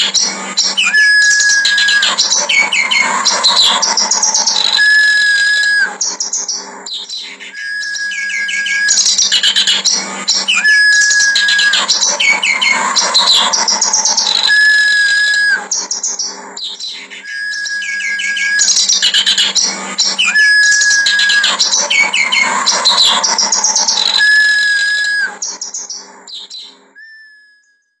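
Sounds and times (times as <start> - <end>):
whistled bird notes: 0.0 - 28.0.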